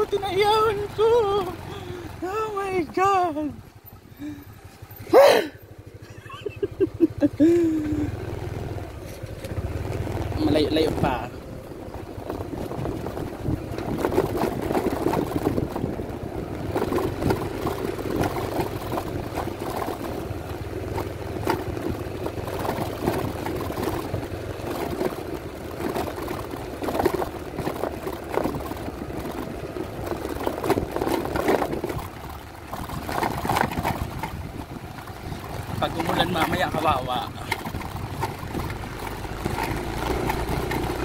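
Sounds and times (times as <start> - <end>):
scooter engine running under load: 0.0 - 41.0.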